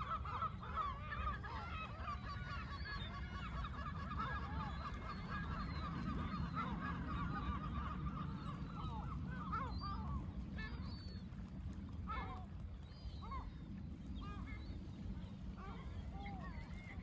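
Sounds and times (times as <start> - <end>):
flock of gulls calling: 0.0 - 17.0.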